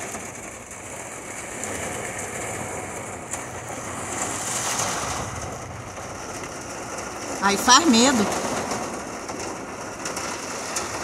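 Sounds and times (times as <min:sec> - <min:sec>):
rain hitting metal and glass: 0:00.0 - 0:11.0
wind: 0:00.0 - 0:11.0.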